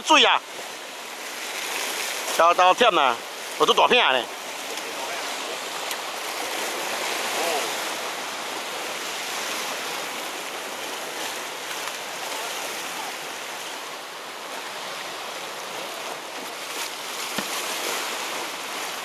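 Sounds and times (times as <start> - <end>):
sea surf on rocky shore: 0.0 - 19.0.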